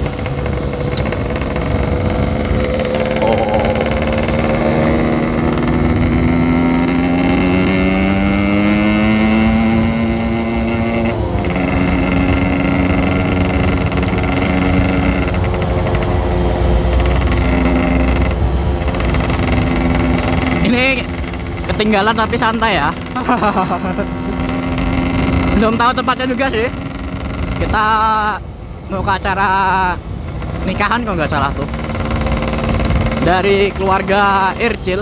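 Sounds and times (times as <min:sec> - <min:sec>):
two-stroke motorcycle accelerating: 0:00.0 - 0:35.0.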